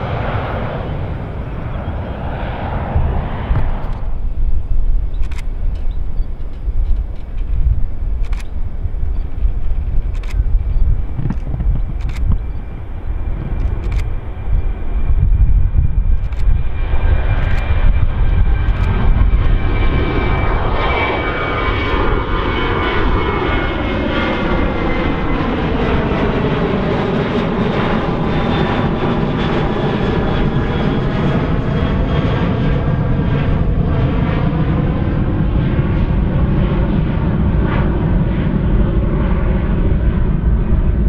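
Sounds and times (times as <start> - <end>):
jet engines roaring overhead: 0.0 - 41.0.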